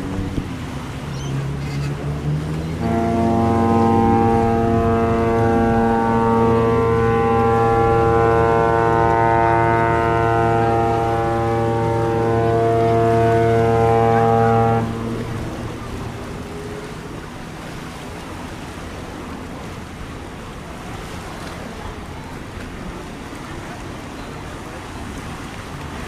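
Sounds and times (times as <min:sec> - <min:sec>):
sea and wind noise: 0:00.0 - 0:26.0
ship's horn blast: 0:00.0 - 0:26.0.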